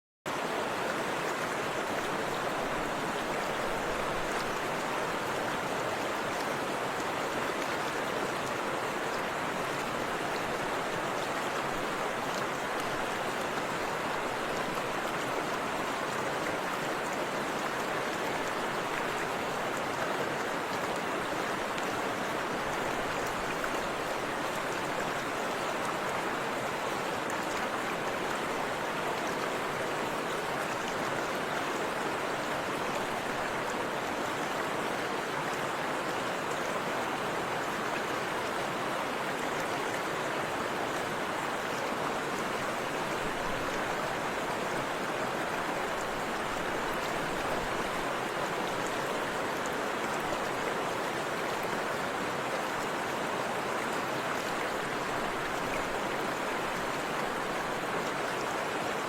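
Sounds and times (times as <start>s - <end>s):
river water flowing: 0.3s - 59.0s.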